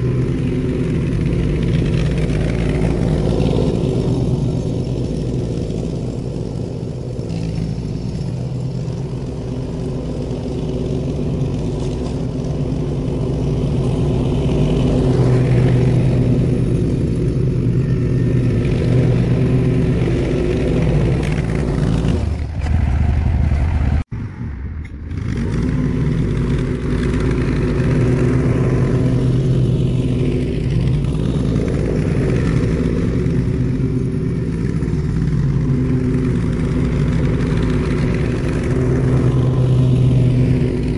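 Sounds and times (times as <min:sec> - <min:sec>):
garden tractor engine running: 0:00.0 - 0:24.0, 0:24.8 - 0:40.9.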